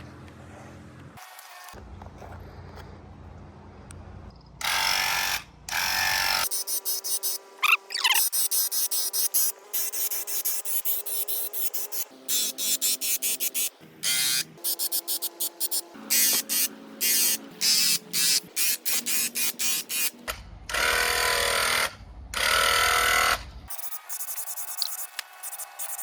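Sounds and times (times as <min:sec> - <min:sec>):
power tool motor buzzing: 0:04.6 - 0:26.0.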